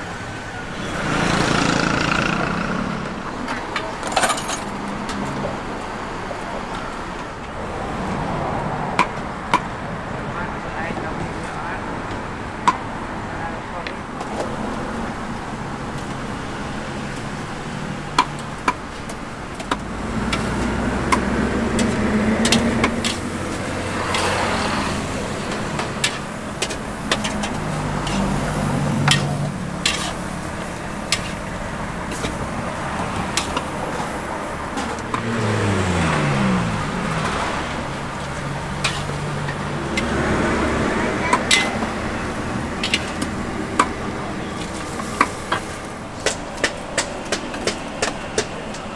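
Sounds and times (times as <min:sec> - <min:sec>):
vehicles passing: 0:00.0 - 0:48.9.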